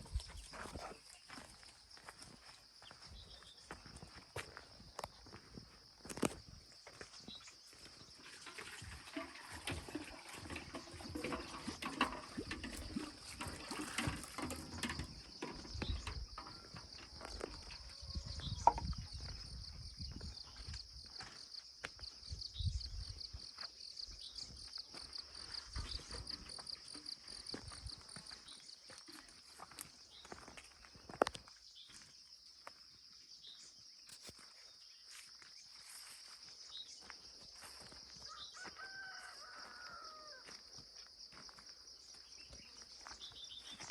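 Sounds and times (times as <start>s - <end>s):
footsteps on a path: 0.0s - 43.9s
insects droning: 0.0s - 43.9s.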